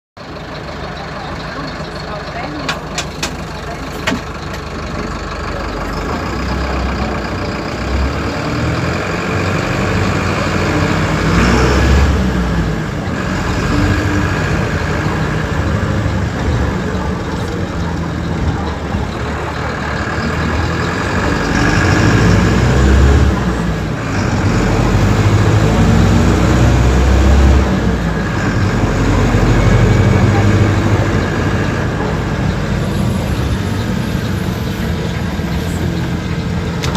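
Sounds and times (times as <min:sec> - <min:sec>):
bus diesel engine revving: 0:00.2 - 0:36.9.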